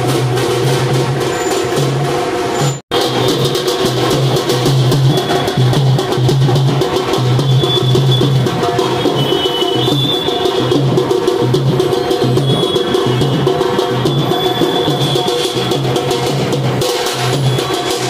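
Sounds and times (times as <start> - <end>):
fast sharp drum strokes: 0.0 - 18.0.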